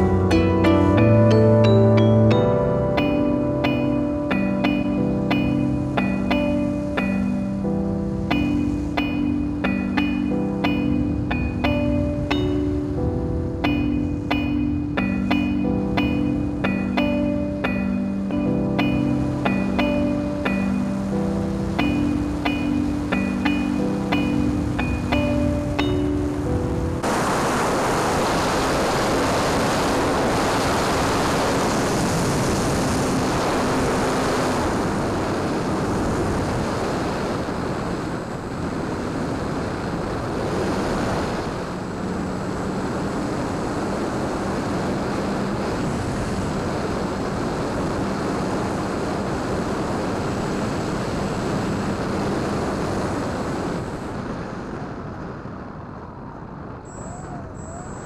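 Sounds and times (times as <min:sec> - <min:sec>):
rush of wind: 0:00.0 - 0:58.0.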